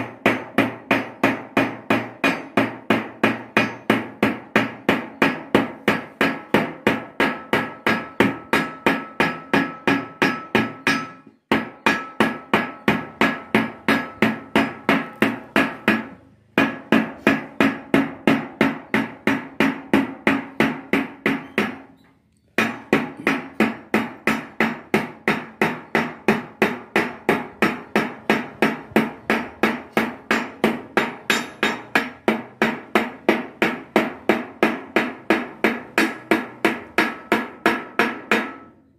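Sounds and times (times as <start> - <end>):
hammer striking sheet metal: 0.0 - 21.9, 22.6 - 38.8.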